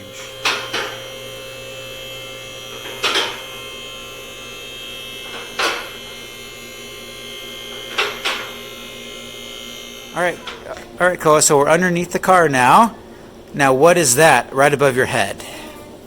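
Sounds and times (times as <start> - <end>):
steady electric hum: 0.0 - 16.0.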